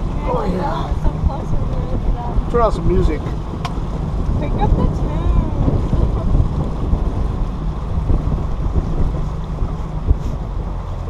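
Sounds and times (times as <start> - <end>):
motorboat engine drone: 0.0 - 11.0
wind buffeting microphone: 0.0 - 11.0.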